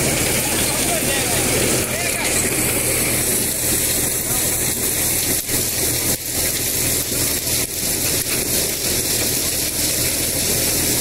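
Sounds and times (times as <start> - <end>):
corn thresher running: 0.0 - 11.0
tractor engine drone: 0.0 - 11.0.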